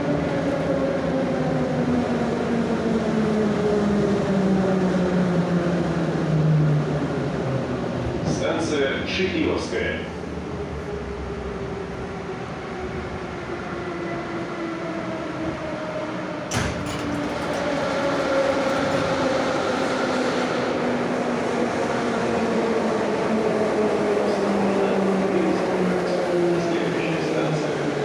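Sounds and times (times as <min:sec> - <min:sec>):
subway train running: 0:00.0 - 0:28.0.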